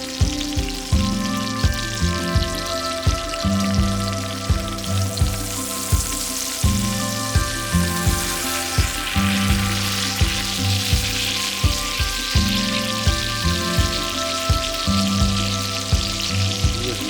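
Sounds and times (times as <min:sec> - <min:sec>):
background music with steady beat: 0:00.0 - 0:17.0
steak sizzling in a pan: 0:00.0 - 0:17.0.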